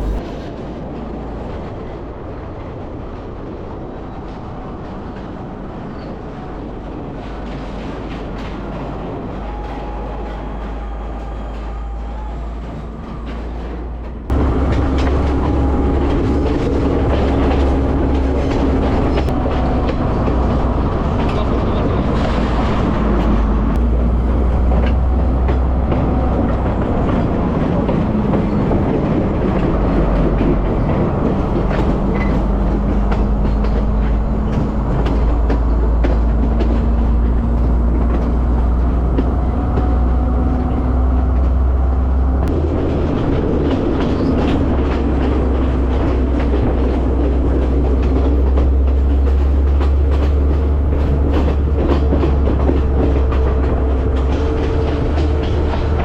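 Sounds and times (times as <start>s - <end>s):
train rumbling on rails: 0.0s - 56.0s
wheels clattering over rail joints: 5.0s - 56.0s.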